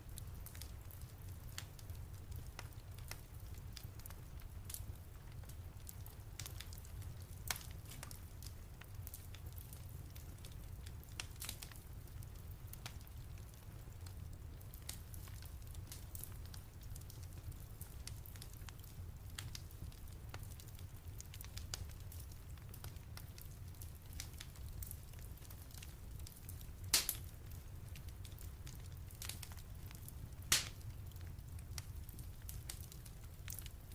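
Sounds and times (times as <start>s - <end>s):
low rumble of fire: 0.0s - 33.9s
wood fire crackling: 0.0s - 33.9s.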